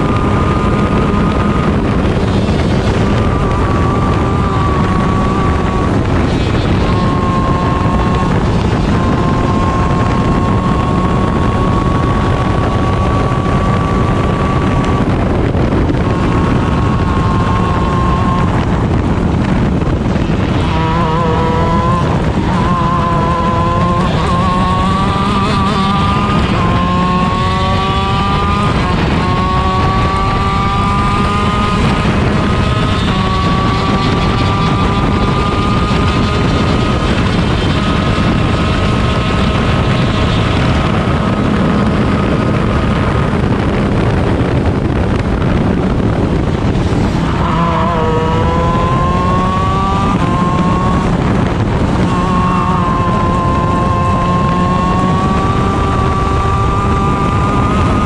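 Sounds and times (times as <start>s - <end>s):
kart engine revving through gears: 0.0s - 58.0s
wind noise: 0.0s - 58.0s.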